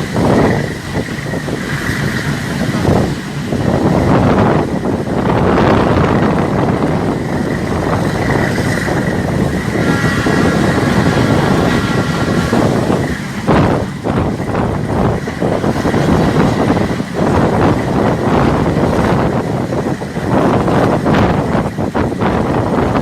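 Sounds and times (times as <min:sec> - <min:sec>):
train rushing along track: 0:00.0 - 0:23.0.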